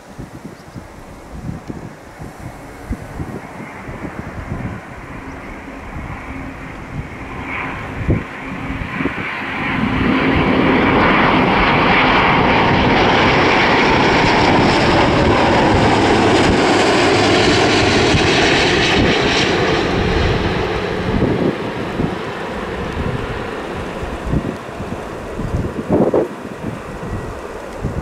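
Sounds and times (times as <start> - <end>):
airliner engines roaring past: 0.0 - 28.0.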